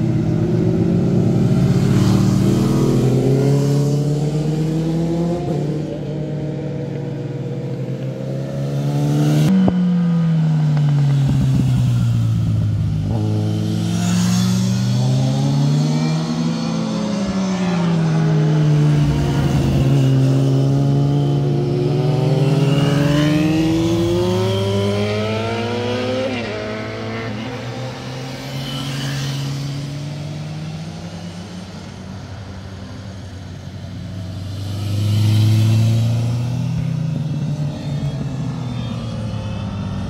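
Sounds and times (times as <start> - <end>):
motorcycles passing: 0.0 - 40.0.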